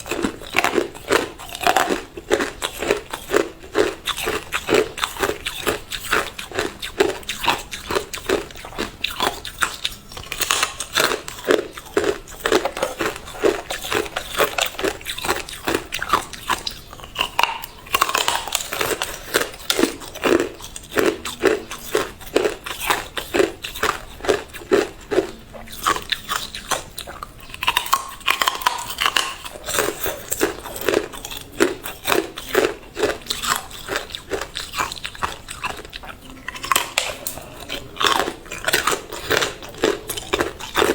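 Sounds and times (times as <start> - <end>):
person chewing ice: 0.0 - 40.9.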